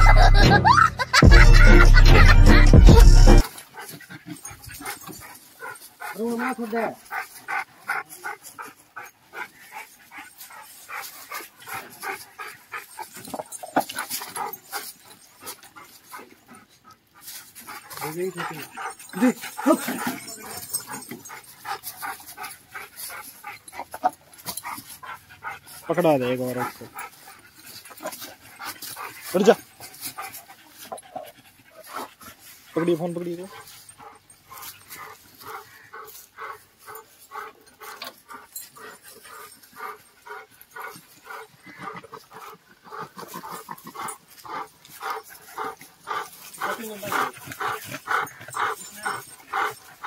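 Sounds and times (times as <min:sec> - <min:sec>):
dog panting: 0:02.8 - 0:50.0.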